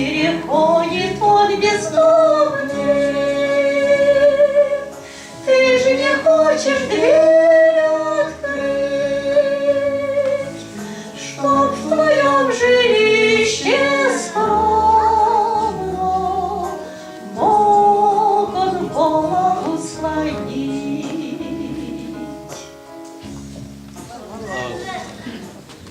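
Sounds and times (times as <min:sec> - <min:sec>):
woman singing a gospel hymn: 0:00.0 - 0:22.8
instrumental accompaniment: 0:00.0 - 0:25.9.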